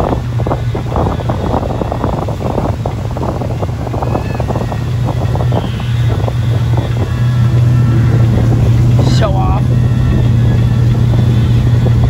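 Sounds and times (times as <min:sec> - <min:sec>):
motorboat engine droning: 0:00.0 - 0:12.0
wind buffeting microphone: 0:00.0 - 0:12.0.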